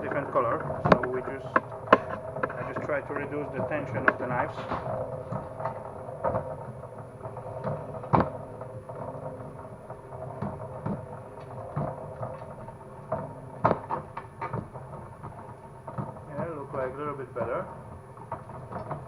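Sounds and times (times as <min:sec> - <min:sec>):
clicks and knocks of cable feeding: 0:00.0 - 0:19.0
machine motor droning: 0:00.0 - 0:19.0.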